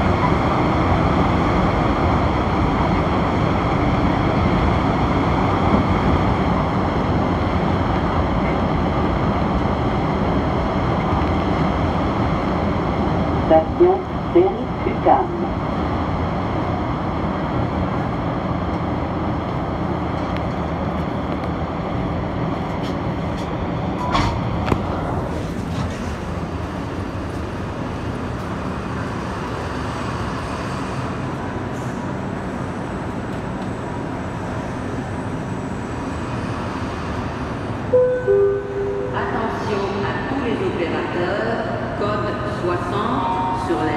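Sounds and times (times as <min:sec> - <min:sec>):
train rumble and hiss: 0:00.0 - 0:43.9.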